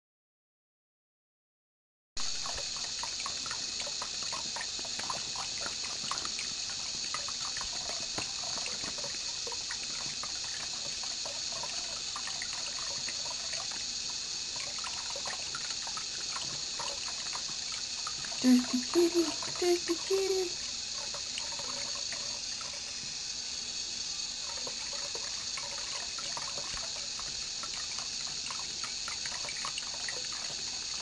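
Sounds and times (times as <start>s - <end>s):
faucet trickling into sink: 2.2s - 31.0s.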